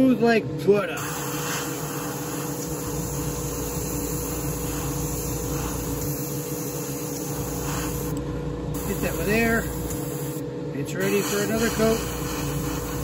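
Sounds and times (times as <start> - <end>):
constant hum: 0.0 - 13.0
airbrush hissing: 1.0 - 8.2, 8.8 - 13.0.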